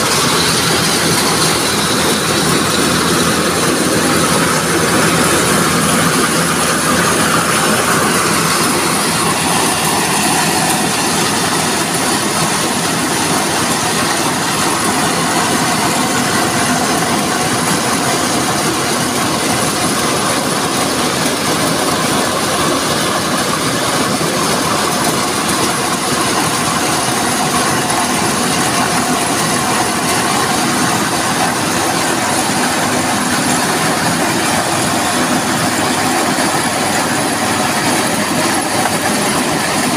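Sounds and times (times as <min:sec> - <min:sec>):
corn sheller mechanical rattle: 0:00.0 - 0:39.9.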